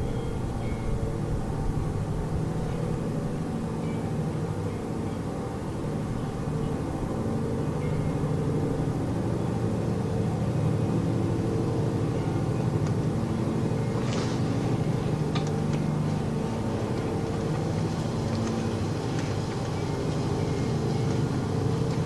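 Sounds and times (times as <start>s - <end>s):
low droning tones: 0.0s - 22.0s.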